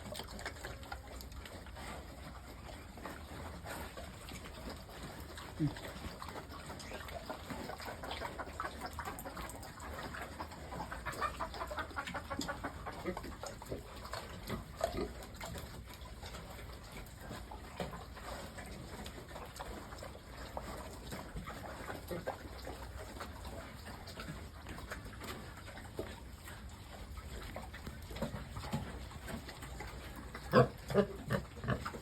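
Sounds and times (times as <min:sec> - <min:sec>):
pigs grunting and squealing: 0:00.0 - 0:32.0.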